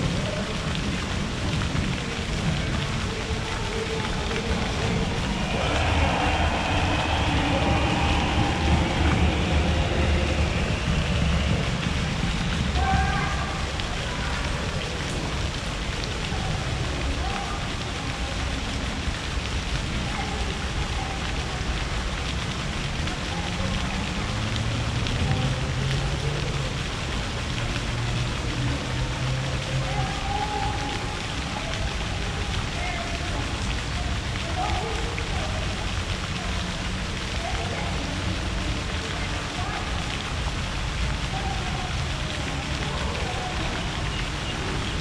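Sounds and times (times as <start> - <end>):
distant crowd voices: 0.0 - 45.0.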